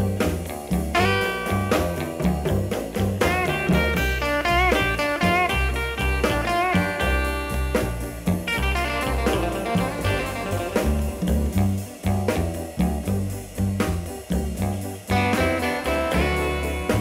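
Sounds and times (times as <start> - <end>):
bluesy guitar and bass music: 0.0 - 17.0.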